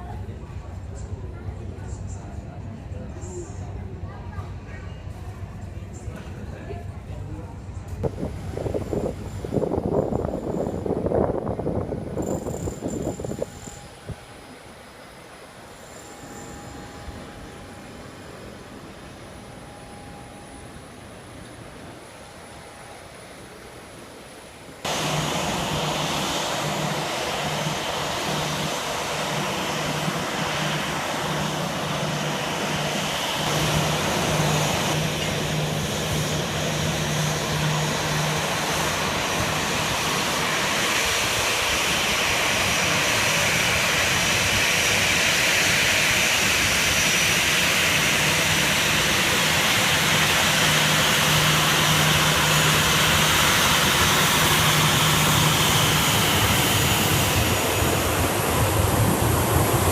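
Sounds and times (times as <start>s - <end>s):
jet engines roaring: 7.6s - 59.9s.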